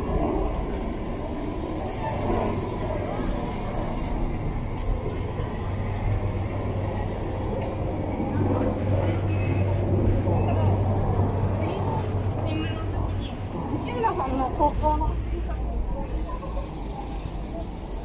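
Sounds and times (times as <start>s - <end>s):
busy street ambience: 0.0s - 18.0s.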